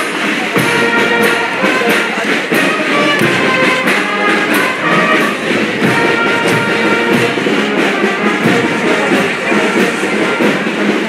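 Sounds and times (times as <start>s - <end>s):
brass band playing a march: 0.0s - 11.0s
steady drum beat: 0.0s - 11.0s.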